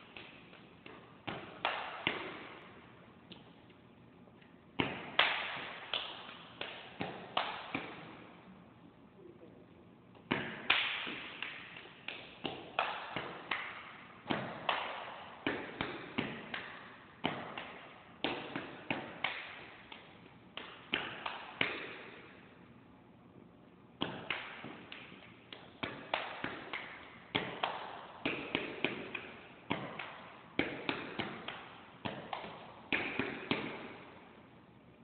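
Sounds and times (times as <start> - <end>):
hand claps and body slaps: 0.0 - 8.4, 10.2 - 22.5, 24.0 - 34.4.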